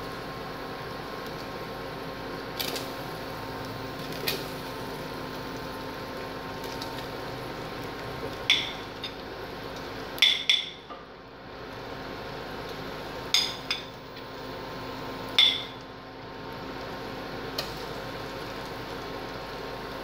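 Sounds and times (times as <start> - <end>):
cooktop hum and hiss: 0.0 - 20.0.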